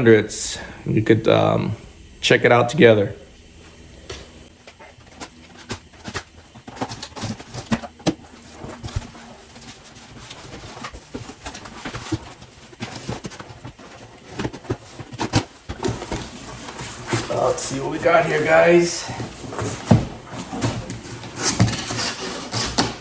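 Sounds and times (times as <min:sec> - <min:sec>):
packaging rustling and clicking: 0:04.5 - 0:23.0.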